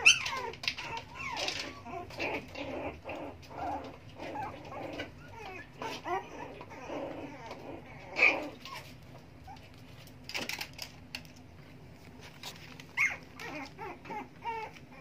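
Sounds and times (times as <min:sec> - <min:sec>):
puppies yelping and whimpering: 0:00.0 - 0:09.9, 0:12.5 - 0:15.0.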